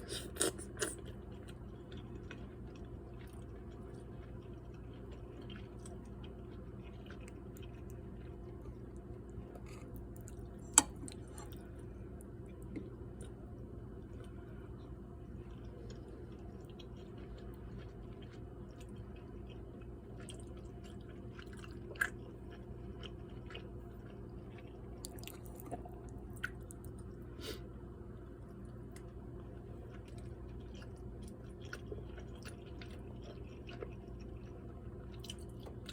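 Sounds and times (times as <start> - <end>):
person chewing pasta: 0.0 - 35.9
steady low hum: 0.0 - 35.9.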